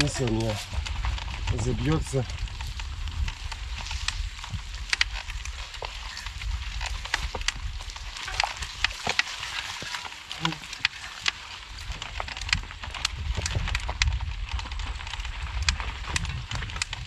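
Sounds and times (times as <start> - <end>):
bike tyres squelching in mud: 0.0 - 17.0.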